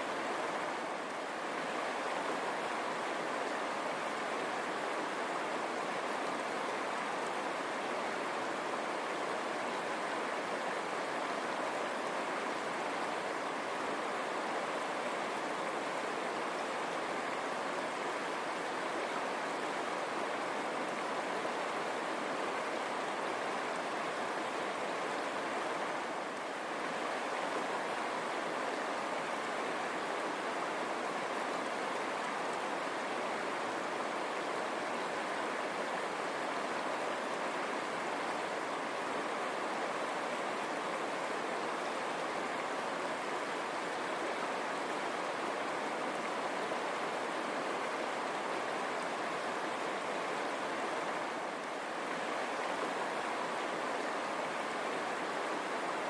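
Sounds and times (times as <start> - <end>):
river water rushing over stones: 0.0 - 56.0.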